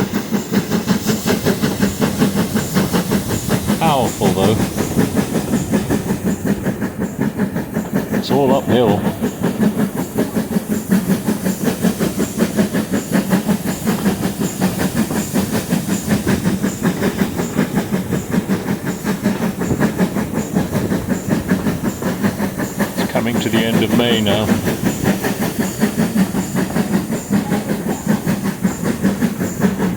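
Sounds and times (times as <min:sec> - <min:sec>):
steam hiss: 0:00.0 - 0:29.9
steam locomotive exhaust beating: 0:00.0 - 0:29.9.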